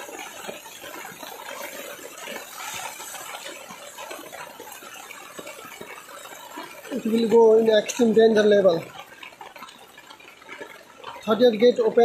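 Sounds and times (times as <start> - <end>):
heavy rain hiss: 0.0 - 12.0
raindrops ticking: 0.0 - 12.0.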